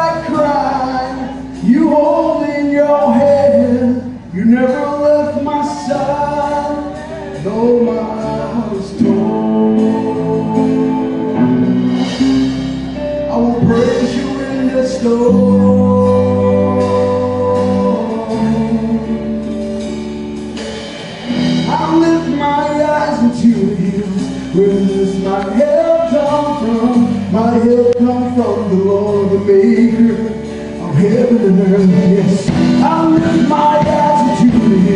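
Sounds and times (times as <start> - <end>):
voices singing gospel: 0.0 - 12.6, 13.2 - 19.8, 21.2 - 34.9
instrumental backing with bass: 0.0 - 34.9.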